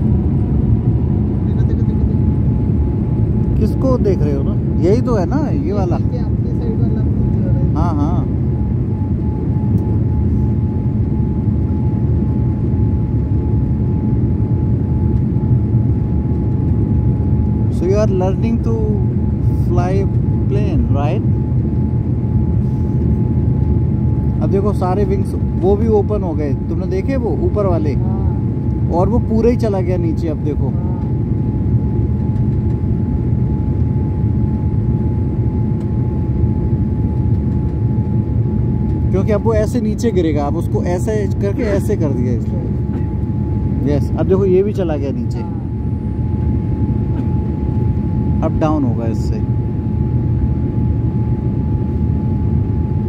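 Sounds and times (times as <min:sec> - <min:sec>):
low roar of engines and airflow: 0:00.0 - 0:53.0
thin steady whine: 0:00.0 - 0:53.0.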